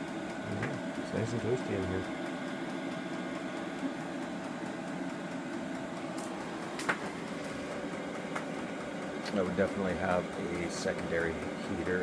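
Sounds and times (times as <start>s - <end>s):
heater blower humming: 0.0s - 12.0s.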